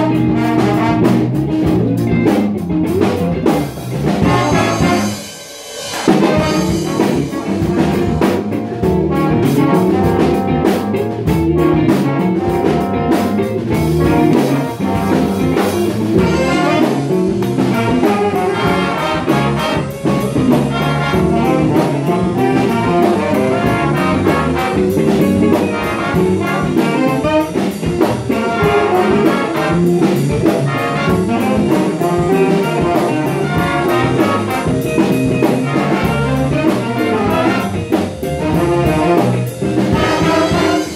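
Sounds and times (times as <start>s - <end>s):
jazz big band playing: 0.0s - 40.9s
steady cymbal beat: 0.0s - 40.9s.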